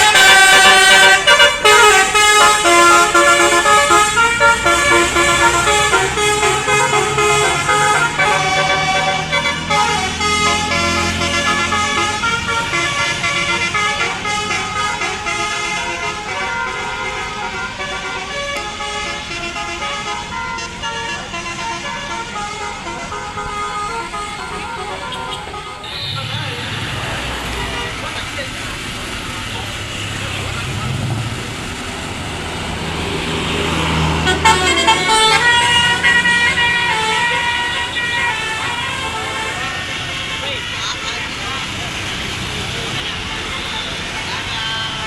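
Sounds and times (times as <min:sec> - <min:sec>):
musical bus horn tune: 0:00.0 - 0:28.0, 0:29.4 - 0:41.6
bus engine humming: 0:00.0 - 0:45.0.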